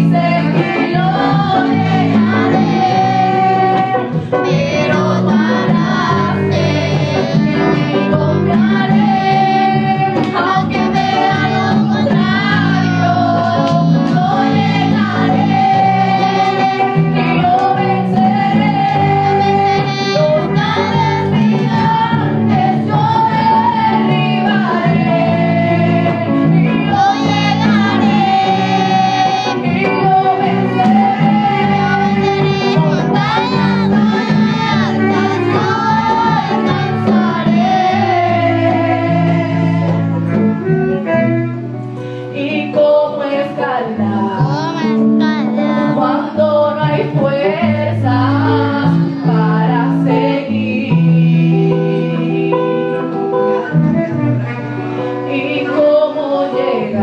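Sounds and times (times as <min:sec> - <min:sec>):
woman singing into microphone: 0:00.0 - 0:41.4, 0:42.0 - 0:57.0
musical accompaniment: 0:00.0 - 0:57.0.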